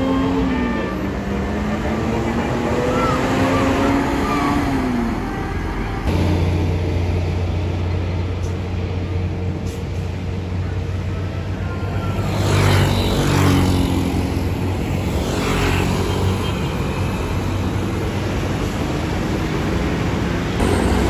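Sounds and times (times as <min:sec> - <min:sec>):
diesel bus engine humming: 0:00.0 - 0:12.3, 0:15.9 - 0:21.0
traffic rushing past: 0:00.0 - 0:21.0.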